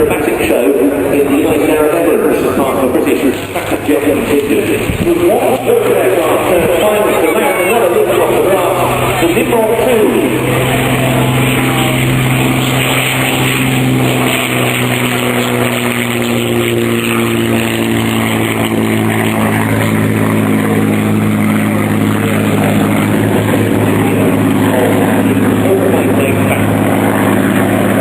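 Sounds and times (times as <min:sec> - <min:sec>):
aircraft engine droning: 0:00.0 - 0:28.0.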